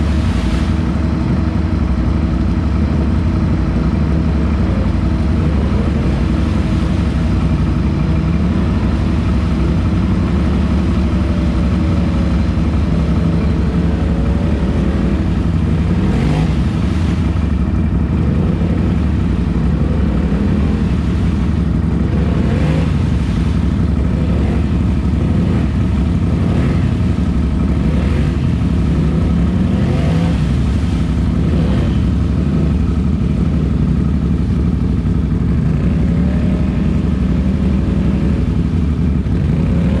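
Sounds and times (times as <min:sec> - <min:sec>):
atv engine running hard: 0:00.0 - 0:40.0
tyres churning in mud and water: 0:00.0 - 0:40.0.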